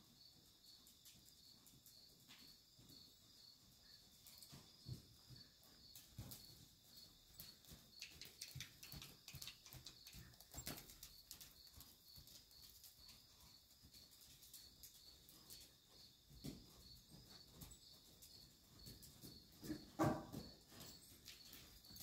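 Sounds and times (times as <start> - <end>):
horse hoofbeats on sand: 0.2 - 22.0.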